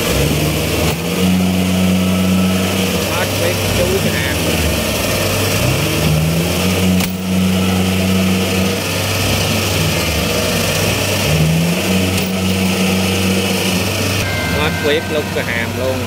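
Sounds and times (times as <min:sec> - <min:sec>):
diesel engine running hard: 0:00.0 - 0:16.0.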